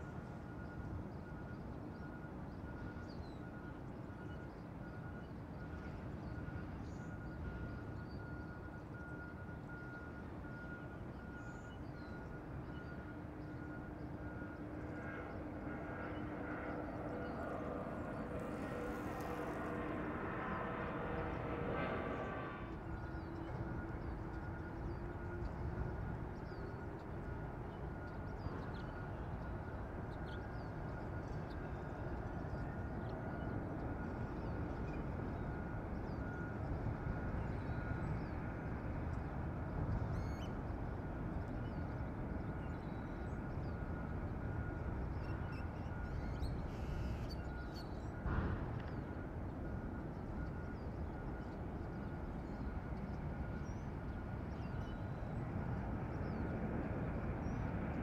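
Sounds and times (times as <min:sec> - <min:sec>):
distant jet engines: 0:00.0 - 0:58.0.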